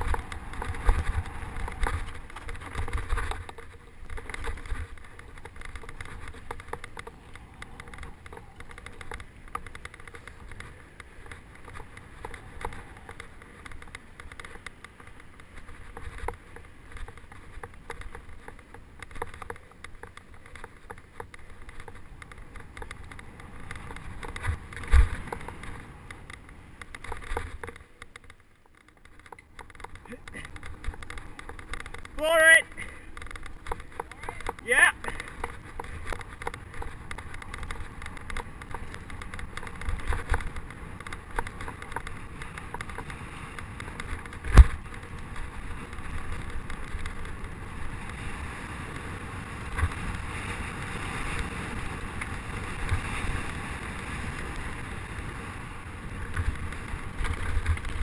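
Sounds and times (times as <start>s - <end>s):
bike rattling and knocking: 0.0s - 58.0s
bike tyres rumbling on dirt: 0.0s - 58.0s.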